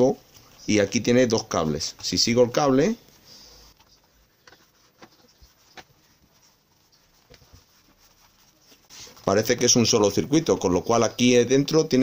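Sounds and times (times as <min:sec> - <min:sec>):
hands rustling on cloth: 0:00.2 - 0:10.9.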